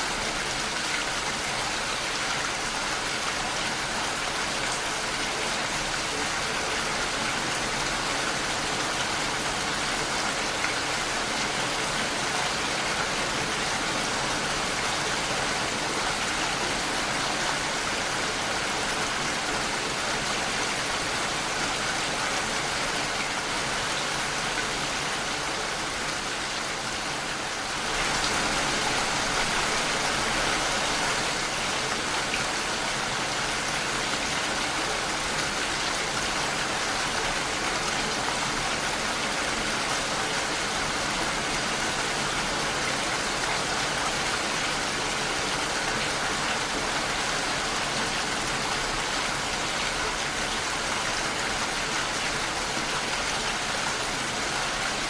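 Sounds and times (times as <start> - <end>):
rain on a window: 0.0 - 55.0.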